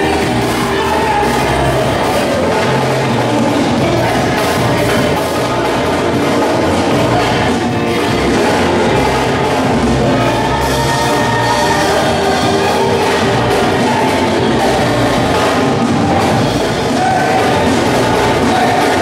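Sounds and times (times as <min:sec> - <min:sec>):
loud gospel music: 0:00.0 - 0:19.0.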